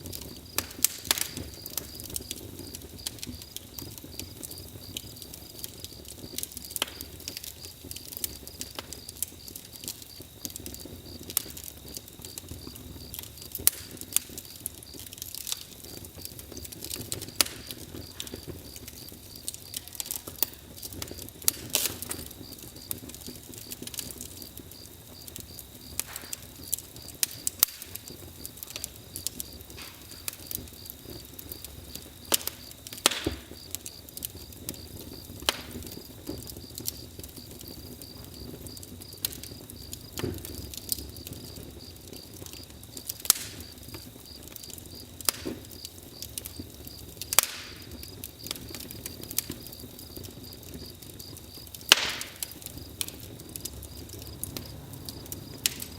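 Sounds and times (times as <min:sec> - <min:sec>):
campfire crackling and popping: 0:00.0 - 0:55.9
crickets chirring: 0:00.1 - 0:55.9.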